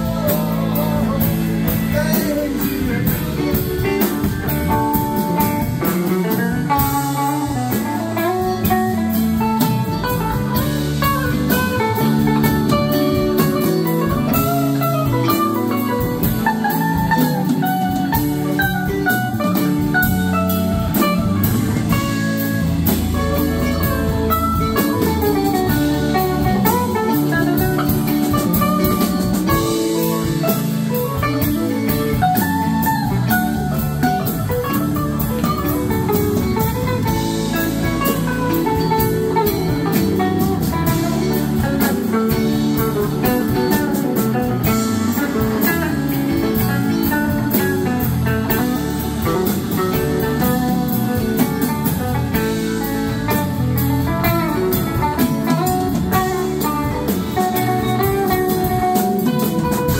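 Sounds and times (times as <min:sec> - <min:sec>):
electric guitar lead line: 0:00.0 - 0:59.9
rock band playing: 0:00.0 - 0:59.9.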